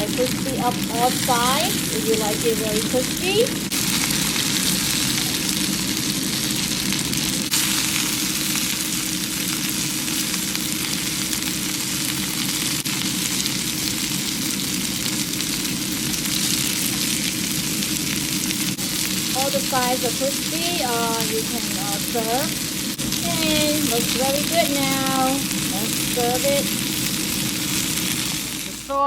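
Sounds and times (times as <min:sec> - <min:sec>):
dumplings sizzling in oil: 0:00.0 - 0:29.0.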